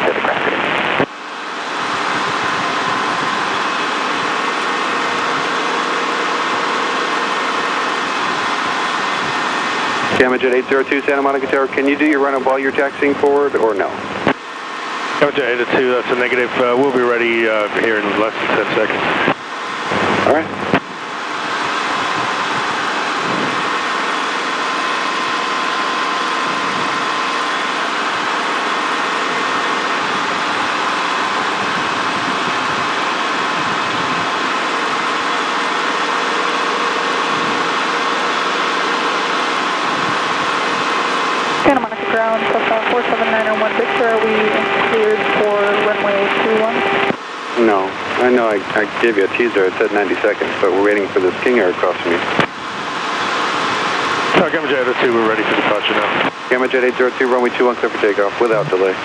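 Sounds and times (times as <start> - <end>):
helicopter engine and rotor noise: 0.0 - 59.0
thin steady whine: 0.0 - 59.0.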